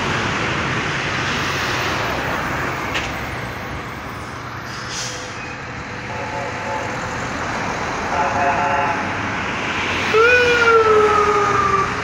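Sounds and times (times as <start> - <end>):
road traffic passing: 0.0 - 12.0
truck passing: 0.0 - 12.0.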